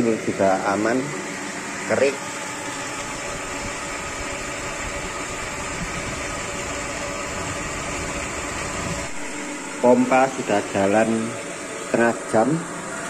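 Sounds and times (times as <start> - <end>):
water pump motor humming: 0.0 - 13.0.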